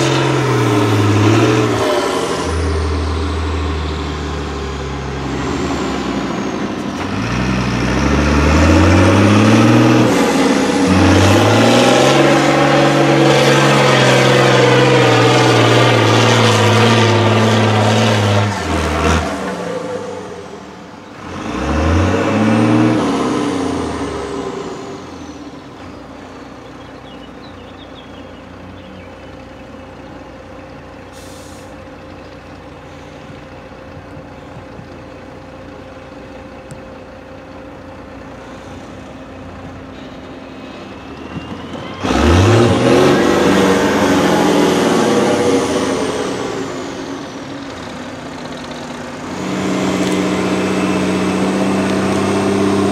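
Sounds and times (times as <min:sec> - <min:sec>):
diesel truck engine revving: 0:00.0 - 0:52.9.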